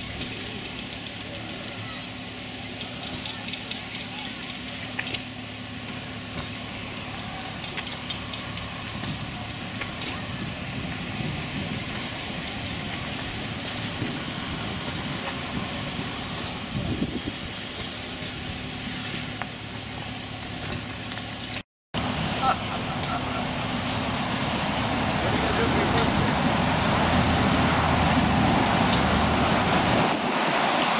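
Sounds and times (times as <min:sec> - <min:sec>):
engine humming: 0:00.0 - 0:30.9
outdoor background noise: 0:00.0 - 0:30.9.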